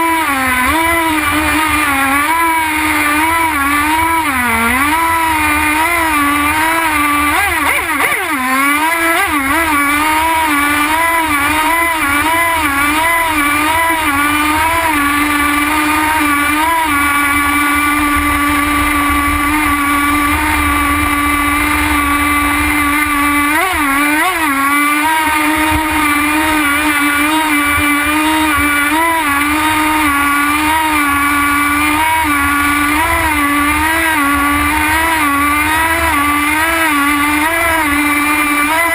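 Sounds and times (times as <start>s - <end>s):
model boat engine running: 0.0s - 38.9s.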